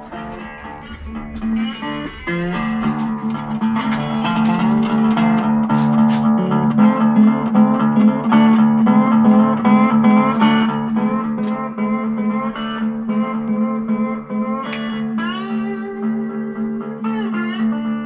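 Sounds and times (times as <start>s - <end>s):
slide resonator guitar blues: 0.0s - 18.0s.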